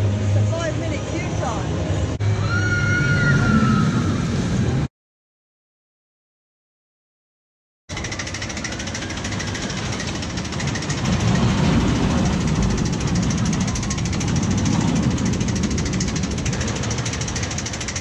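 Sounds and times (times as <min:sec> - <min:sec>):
roller coaster train rumbling: 0:00.0 - 0:04.9, 0:07.9 - 0:18.0.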